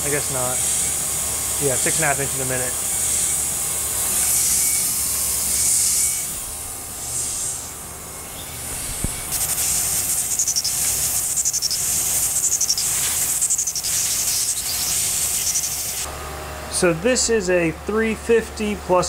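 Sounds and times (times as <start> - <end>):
end mill cutting steel: 0.0 - 16.9.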